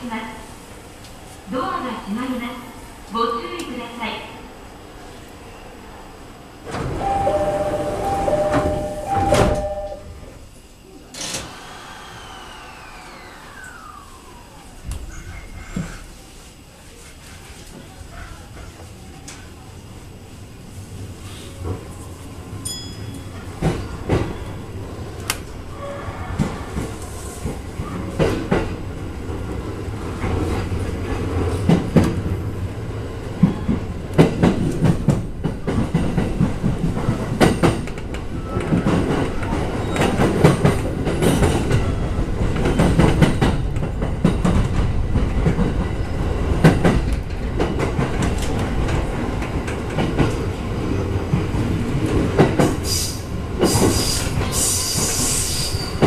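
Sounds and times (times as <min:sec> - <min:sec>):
train wheels rumbling on rail: 0:06.6 - 0:56.0.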